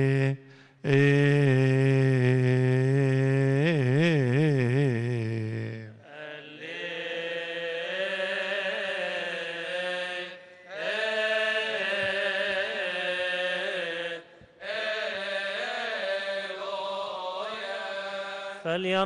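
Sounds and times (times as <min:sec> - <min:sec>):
man singing a chant: 0:00.0 - 0:19.0.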